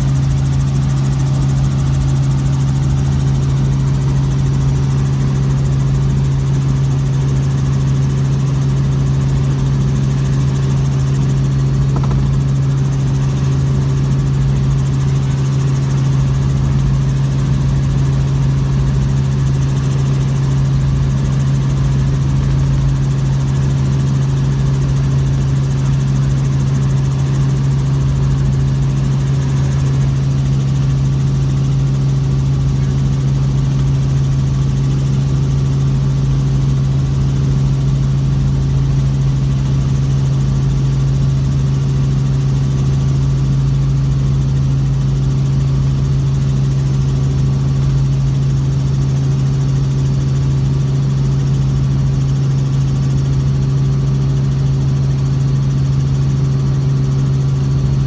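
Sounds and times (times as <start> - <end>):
helicopter engine and rotor hum: 0.0 - 58.0.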